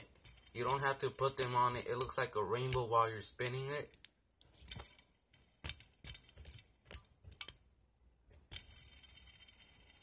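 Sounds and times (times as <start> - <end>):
fidget spinner plastic clicks: 0.0 - 7.6, 8.4 - 10.0
fidget spinner spinning: 0.0 - 7.7, 8.3 - 10.0.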